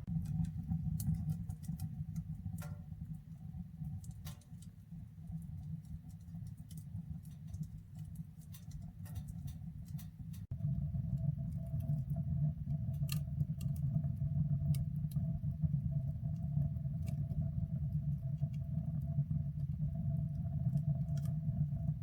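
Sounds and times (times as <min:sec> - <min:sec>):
low fire rumble: 0:00.0 - 0:22.0
wood stove crackling: 0:00.0 - 0:22.0.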